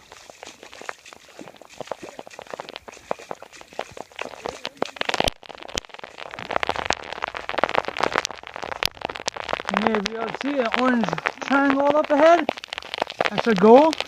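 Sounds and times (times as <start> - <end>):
rain: 0.0 - 14.0
river water splashing: 0.0 - 14.0.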